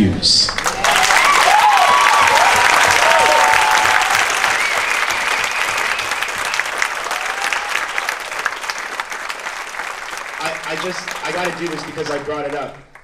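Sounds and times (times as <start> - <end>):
audience applauding: 0.5 - 13.0
audience cheering: 0.6 - 12.7.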